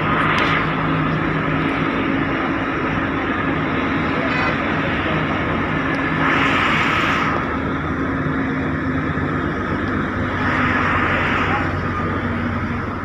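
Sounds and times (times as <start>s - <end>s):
hissing noise: 0.0s - 12.9s
road and wind noise: 0.0s - 13.0s
vehicle engine hum: 0.0s - 13.0s.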